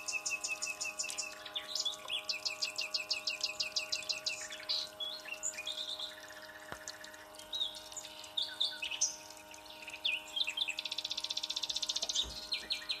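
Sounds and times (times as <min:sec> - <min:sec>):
bird trill: 0:00.0 - 0:13.0
faint steady hum: 0:00.0 - 0:13.0
songbirds chirping: 0:00.0 - 0:13.0.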